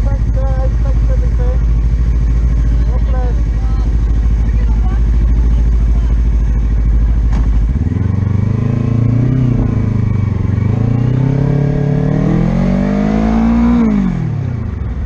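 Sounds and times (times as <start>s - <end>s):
motorcycle engine accelerating hard: 0.0s - 15.0s.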